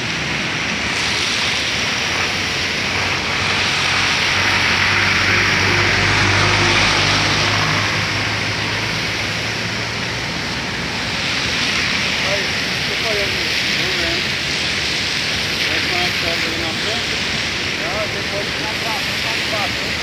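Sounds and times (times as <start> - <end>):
heavy rain on road: 0.0 - 20.0
vehicle engine hum: 0.0 - 20.0.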